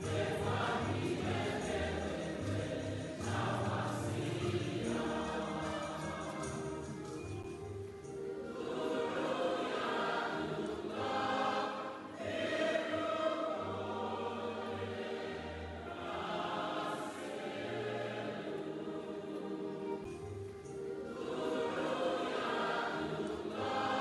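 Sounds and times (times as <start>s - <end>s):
choir singing held chords: 0.0s - 24.0s.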